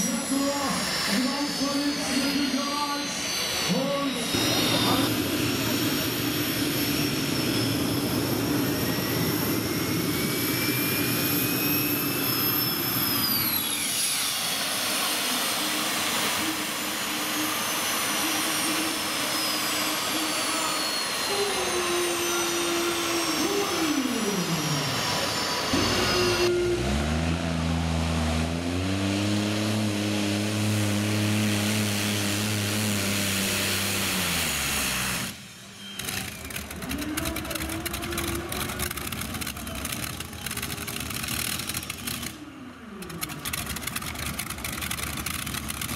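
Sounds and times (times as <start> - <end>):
high whine winding down: 0.0 - 45.9
tractor engines running hard: 0.0 - 45.9.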